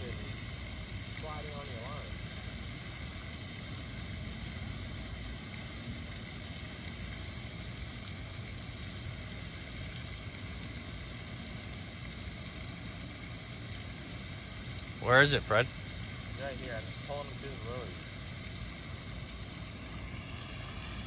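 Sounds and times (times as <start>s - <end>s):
even hiss: 0.0s - 21.0s.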